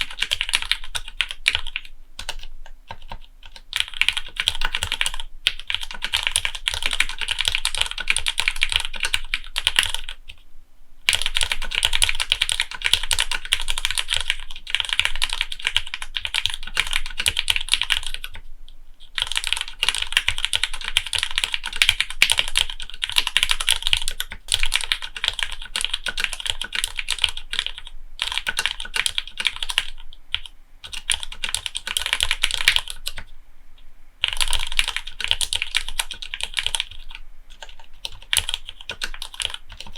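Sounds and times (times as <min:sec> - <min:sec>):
fast typing on mechanical keyboard: 0:00.0 - 0:10.4, 0:11.1 - 0:18.5, 0:19.1 - 0:33.3, 0:34.2 - 0:39.9.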